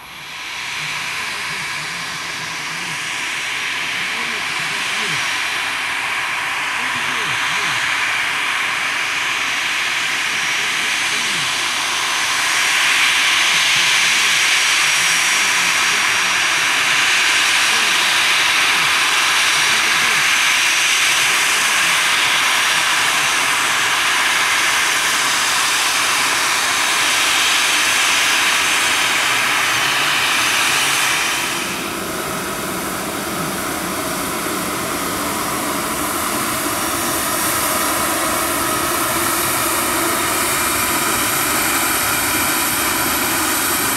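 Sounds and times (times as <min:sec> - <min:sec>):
faint high whine: 0:00.0 - 0:43.9
jet engines hissing: 0:00.0 - 0:43.9.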